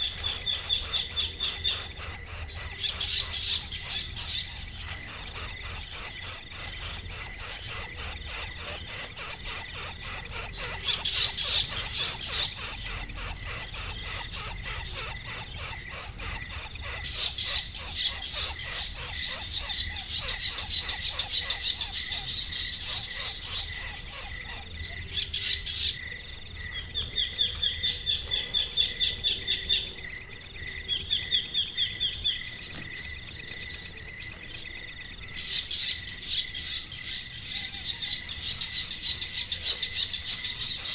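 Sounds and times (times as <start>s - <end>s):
bird chirping: 0.0s - 40.9s
crickets chirping: 0.0s - 40.9s.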